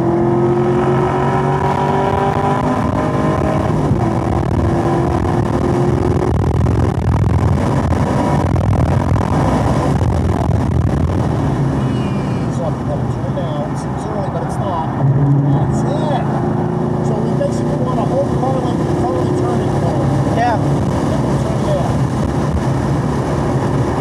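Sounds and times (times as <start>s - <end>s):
car engine revving at full throttle: 0.0s - 24.0s
wind and road noise: 0.0s - 24.0s.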